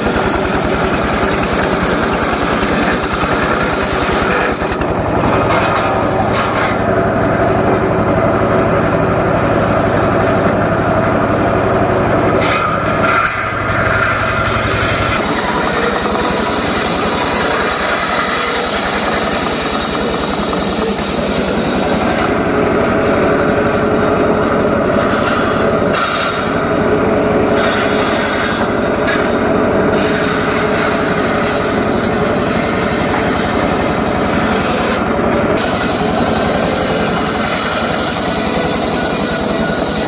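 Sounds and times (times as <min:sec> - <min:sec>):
engine steady beat: 0:00.0 - 0:40.0
saw blade grinding wood: 0:00.0 - 0:40.0.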